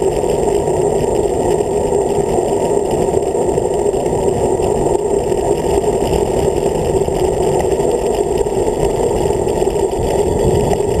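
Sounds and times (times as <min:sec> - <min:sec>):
muffled wind rush: 0:00.0 - 0:11.0
road rumble: 0:00.0 - 0:11.0.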